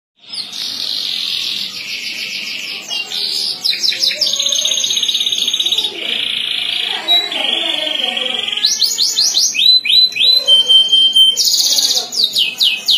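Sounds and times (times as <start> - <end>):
canary singing trills: 0.2 - 12.9.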